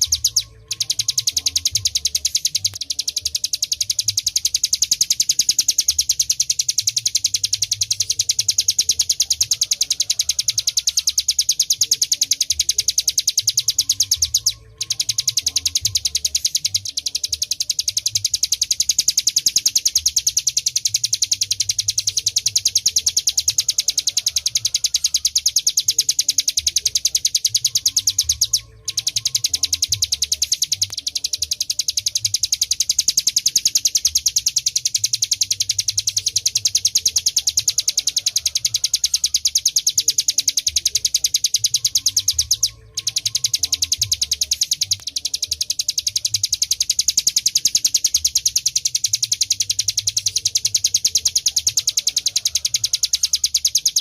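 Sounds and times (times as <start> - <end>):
bird singing rattling trill: 0.0 - 54.0.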